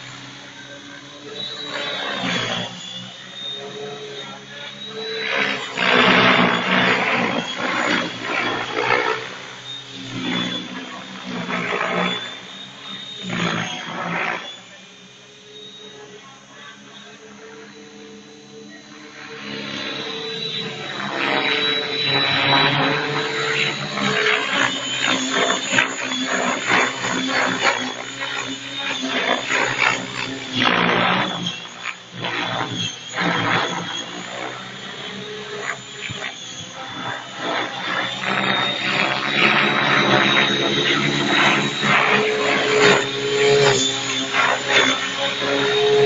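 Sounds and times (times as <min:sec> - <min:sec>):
model helicopter flying past: 0:00.0 - 0:46.0.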